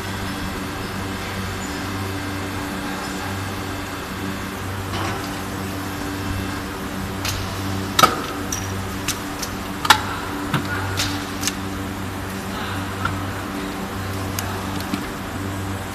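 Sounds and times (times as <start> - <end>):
machine hum: 0.0 - 15.9.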